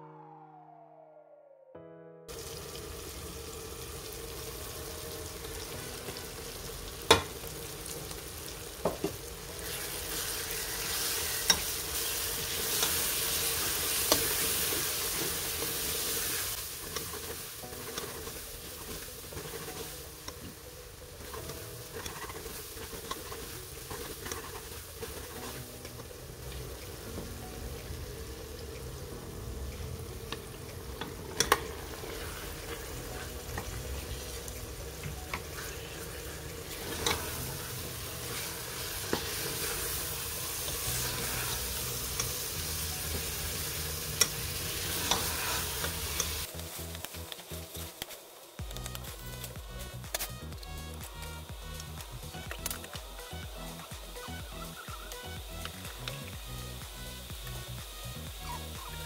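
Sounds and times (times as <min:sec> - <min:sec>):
food sizzling in a pot: 0:02.3 - 0:59.0.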